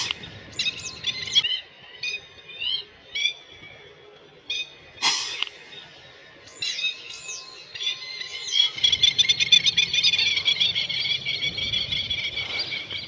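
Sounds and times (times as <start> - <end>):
small birds chirping and twittering: 0.0 - 13.0.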